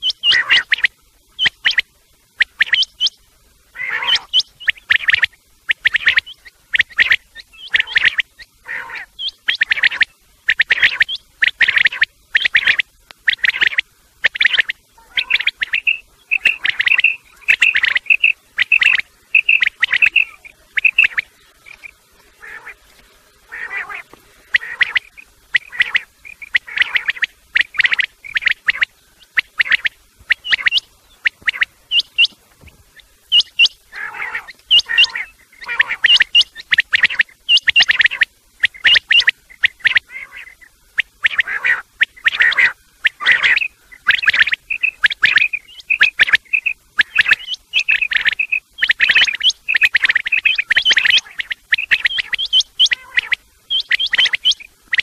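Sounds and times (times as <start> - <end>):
quail chirping calls: 0.0 - 55.0.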